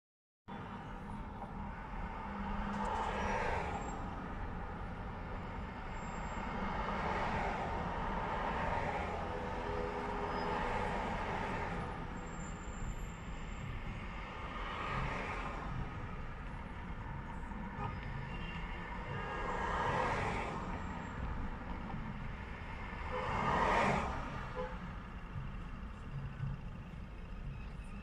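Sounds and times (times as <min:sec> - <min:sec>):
road traffic rumble: 0:00.5 - 0:28.0
vehicles passing: 0:00.5 - 0:28.0.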